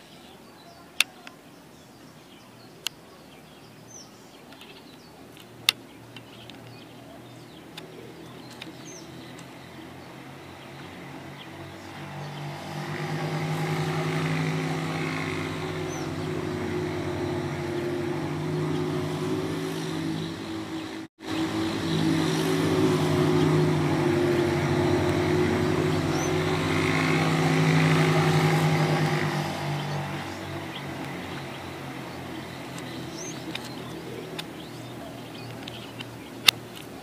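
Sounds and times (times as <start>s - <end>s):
vehicle engine running: 5.5s - 37.0s.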